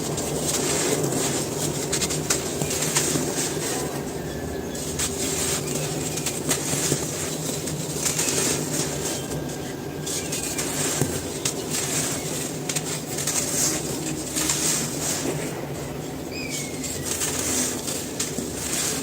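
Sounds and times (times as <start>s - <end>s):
cement pieces crumbled by hand: 0.0s - 19.0s.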